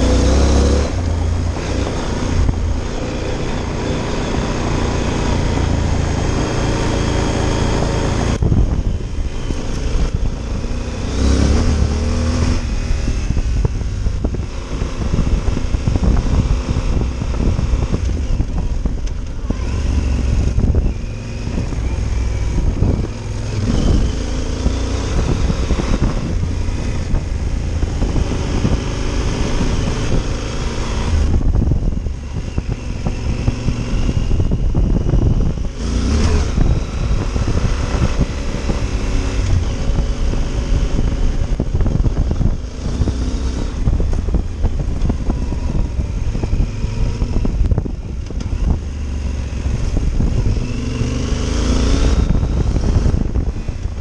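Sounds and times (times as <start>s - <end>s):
motorcycle engine on dirt road: 0.0s - 54.0s.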